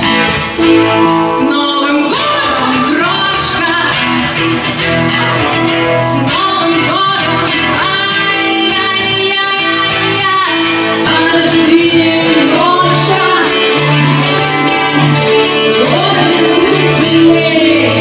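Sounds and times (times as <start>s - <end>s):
acoustic guitar: 0.0s - 18.0s
person singing: 0.0s - 18.0s.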